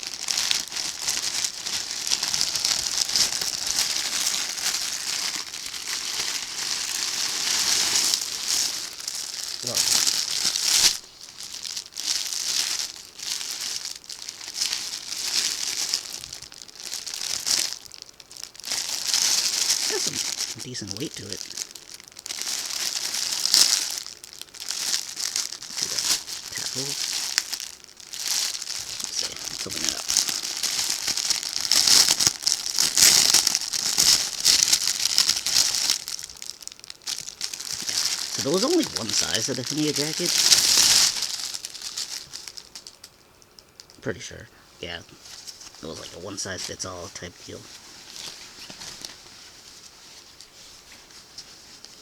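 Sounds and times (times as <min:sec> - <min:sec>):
plastic packaging rustling: 0:00.0 - 0:44.2, 0:44.8 - 0:52.0.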